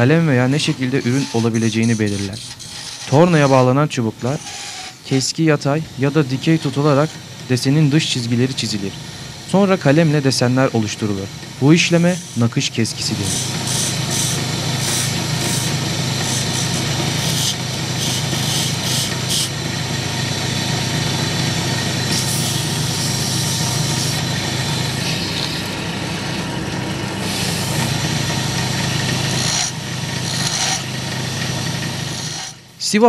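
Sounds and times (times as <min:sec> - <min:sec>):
chisel scraping spinning wood: 0:00.0 - 0:05.3, 0:10.8 - 0:32.7
wood lathe humming: 0:00.0 - 0:32.9.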